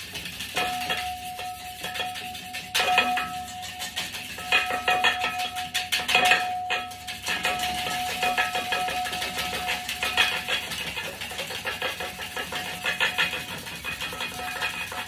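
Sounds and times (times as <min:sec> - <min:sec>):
whisk clinking against metal bowl: 0:00.0 - 0:15.0.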